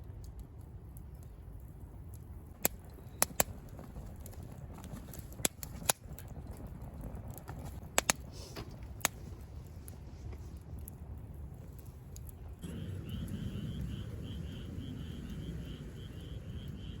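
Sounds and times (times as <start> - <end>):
campfire pops and crackles: 0.0 - 17.0
low steady rumble: 0.0 - 17.0.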